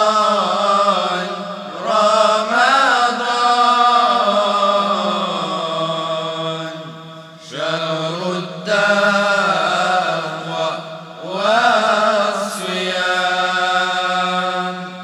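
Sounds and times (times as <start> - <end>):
voices chanting devotional song: 0.0 - 15.0.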